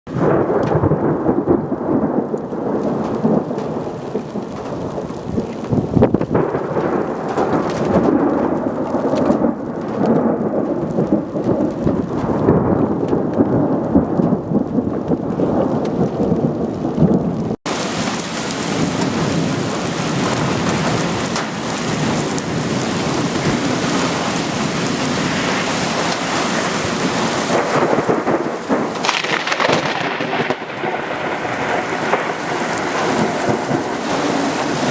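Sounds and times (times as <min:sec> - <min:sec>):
heavy rain: 0:00.1 - 0:34.9
thunder rumbling: 0:00.1 - 0:34.9.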